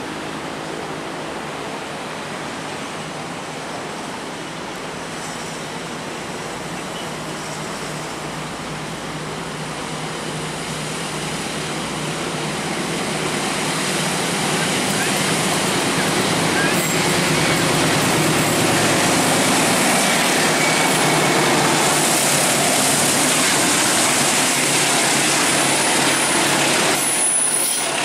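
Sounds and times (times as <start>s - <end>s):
diesel freight train approaching: 0.0s - 28.0s.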